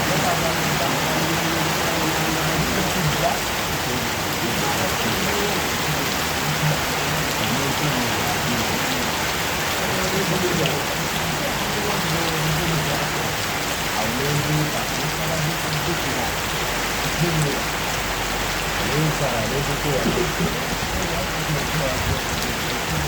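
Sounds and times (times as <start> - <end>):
faint low voice: 0.0 - 17.7, 18.8 - 23.0
steady rain: 0.0 - 23.0.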